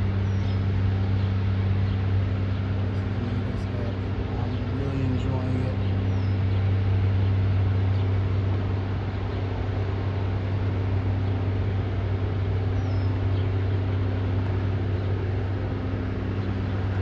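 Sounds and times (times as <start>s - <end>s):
low diesel engine drone: 0.0s - 17.0s.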